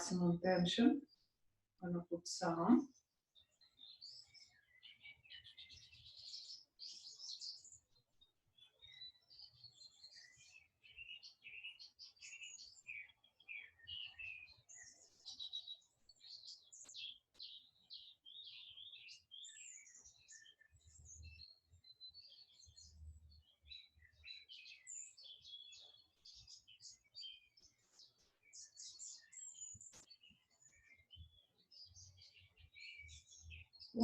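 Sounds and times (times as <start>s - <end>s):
birds chirping and twittering: 0.0s - 34.0s.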